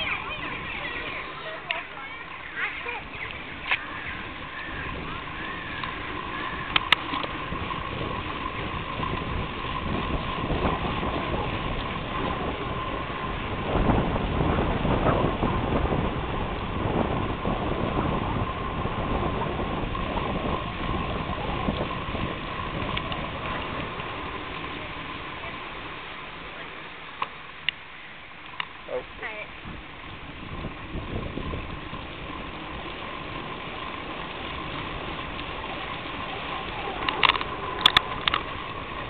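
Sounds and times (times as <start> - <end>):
wind buffeting microphone: 0.0 - 26.7, 28.9 - 39.0
bicycle tyres rumbling on tarmac: 0.0 - 39.0
thin steady whine: 0.0 - 39.0.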